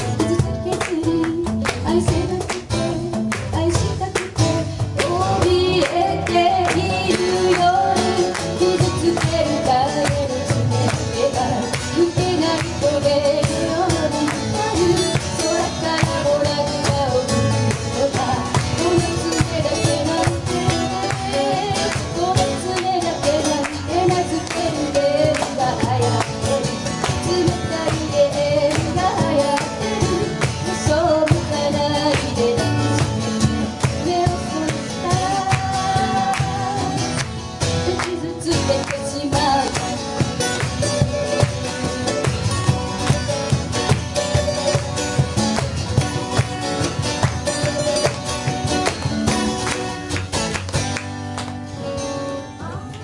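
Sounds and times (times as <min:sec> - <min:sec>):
woman singing: 0:00.0 - 0:42.6
cajon beat: 0:00.0 - 0:53.0
strummed acoustic guitars: 0:00.0 - 0:53.0.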